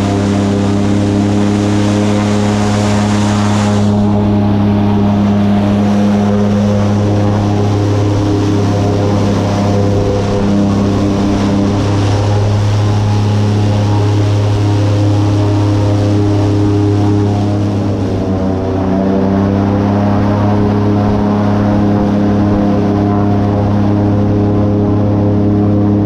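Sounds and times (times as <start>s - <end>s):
airboat engine and propeller drone: 0.0s - 26.0s.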